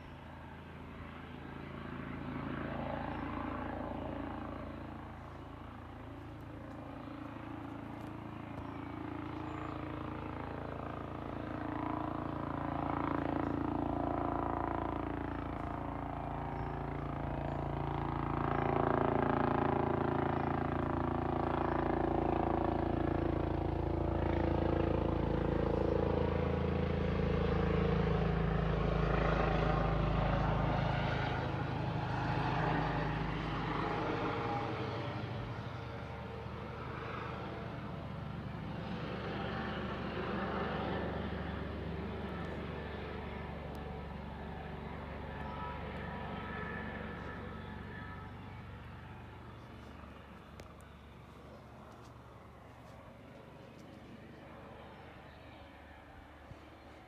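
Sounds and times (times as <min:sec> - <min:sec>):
helicopter rotor and turbine drone: 0:00.0 - 0:57.0.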